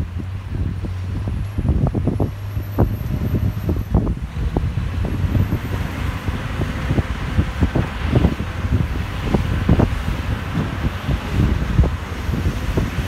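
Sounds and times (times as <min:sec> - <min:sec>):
diesel engine running: 0:00.0 - 0:13.0
wind hiss: 0:00.1 - 0:13.0.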